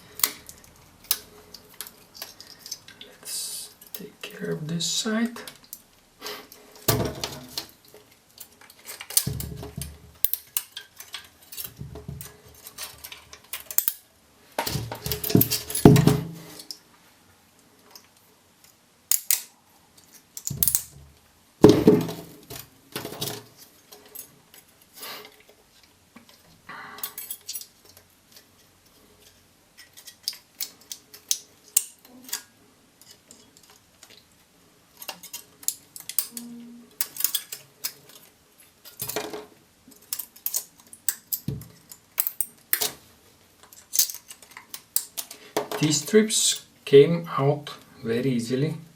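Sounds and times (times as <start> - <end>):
metal strips clicking and clinking: 0.0 - 4.4, 5.2 - 16.8, 17.8 - 21.0, 22.5 - 43.0, 43.6 - 46.7.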